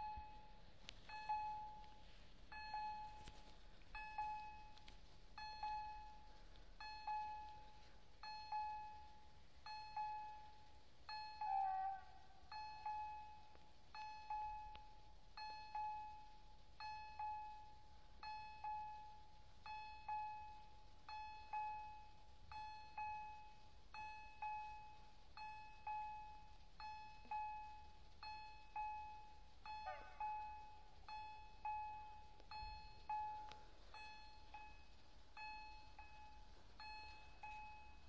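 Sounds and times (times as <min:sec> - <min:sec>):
level crossing bell ringing: 0:00.0 - 0:14.8, 0:15.4 - 0:38.0.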